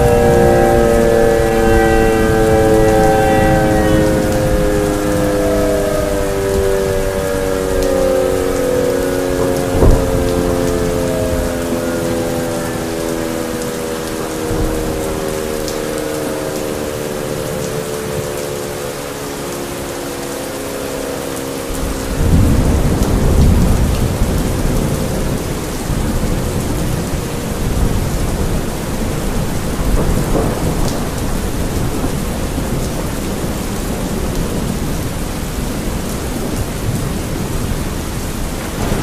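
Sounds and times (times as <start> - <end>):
rolling thunder: 0.0 - 16.2, 21.8 - 39.0
air raid siren: 0.0 - 39.0
steady rain: 0.0 - 39.0.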